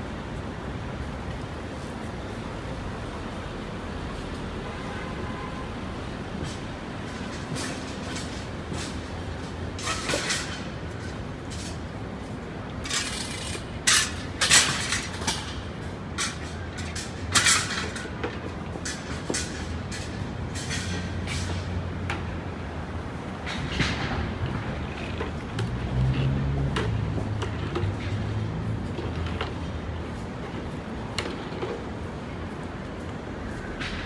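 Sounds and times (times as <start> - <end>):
rumble of passing vehicles: 0.0 - 34.0.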